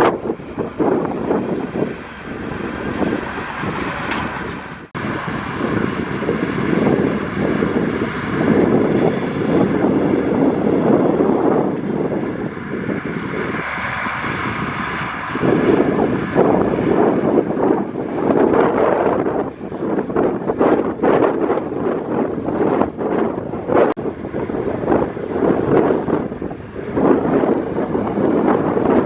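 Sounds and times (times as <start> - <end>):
heavy diesel machinery running: 0.0 - 29.0
wind on microphone: 0.0 - 29.0.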